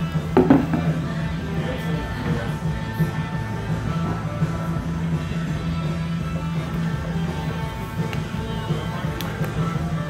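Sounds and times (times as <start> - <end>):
guitar background music: 0.0 - 10.0.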